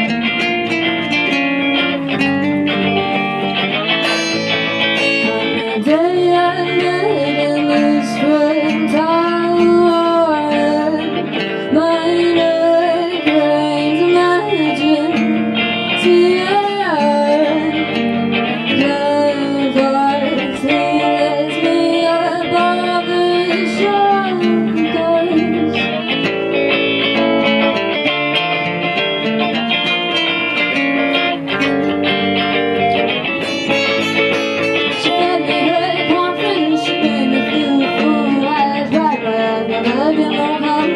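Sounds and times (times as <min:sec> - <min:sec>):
guitars strummed and picked: 0:00.0 - 0:40.9.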